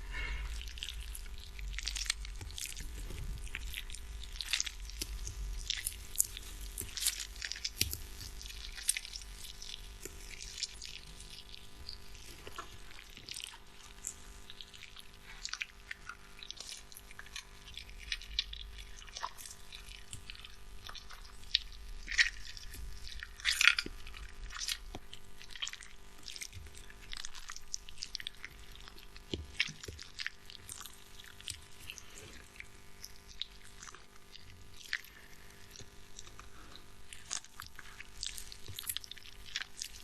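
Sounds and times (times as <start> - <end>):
tomato squishing in a hand: 0.0 - 40.0
small crackles and pops: 0.1 - 40.0.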